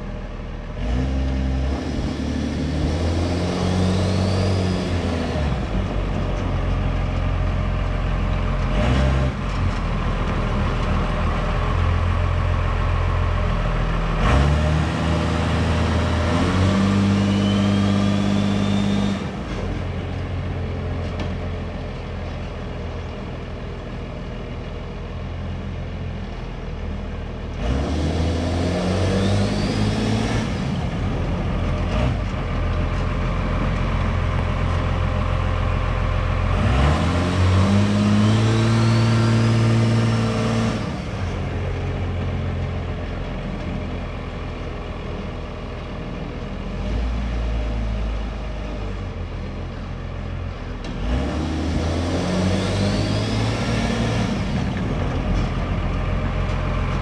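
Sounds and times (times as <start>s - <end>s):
truck engine revving: 0.7s - 21.6s, 27.5s - 44.2s, 46.6s - 57.0s.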